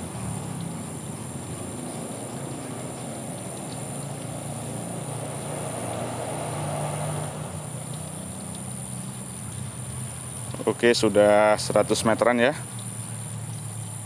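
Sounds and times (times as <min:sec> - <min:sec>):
motor hum: 0:00.0 - 0:14.0.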